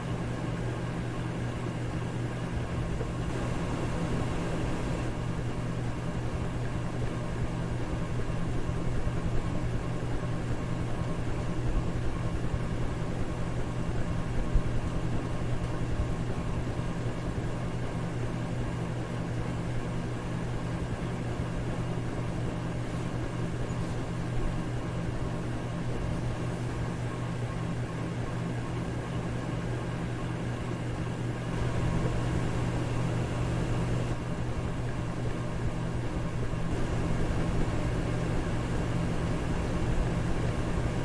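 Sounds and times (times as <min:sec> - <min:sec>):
electric fan running: 0:00.0 - 0:41.0.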